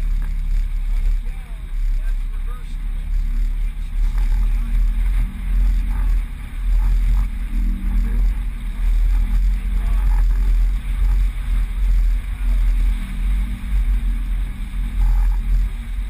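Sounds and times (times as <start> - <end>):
water rushing past hull: 0.0 - 16.0
wind buffeting microphone: 0.0 - 16.0.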